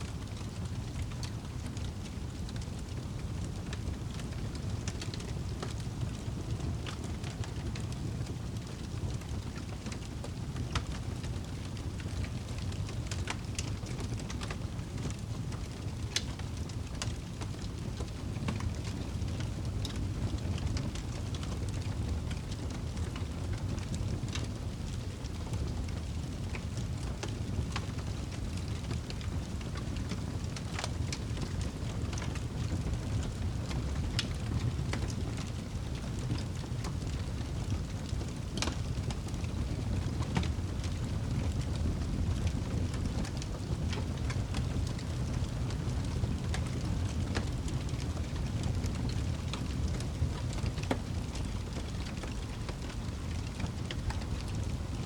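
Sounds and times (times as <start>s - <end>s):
low fire rumble: 0.0s - 55.0s
campfire crackling and popping: 0.1s - 55.0s.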